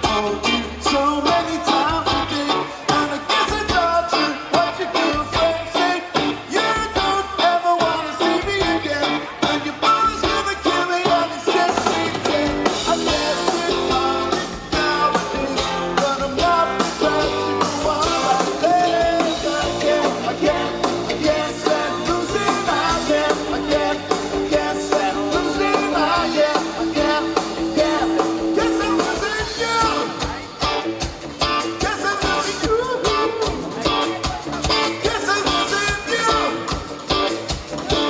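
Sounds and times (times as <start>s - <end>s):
lead vocals singing: 0.0s - 30.4s, 34.8s - 36.8s
live rock band playing: 0.0s - 38.0s.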